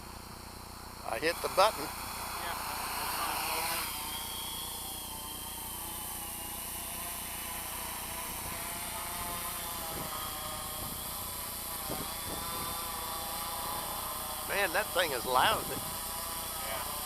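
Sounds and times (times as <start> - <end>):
drone motors whining: 0.6 - 17.0.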